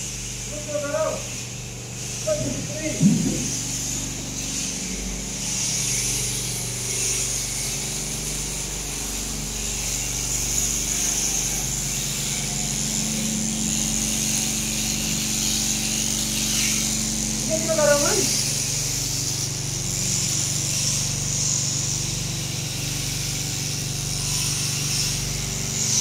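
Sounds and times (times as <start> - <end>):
clipper cutter buzzing hiss: 0.0 - 26.0
shearing handpiece motor hum: 0.0 - 26.0.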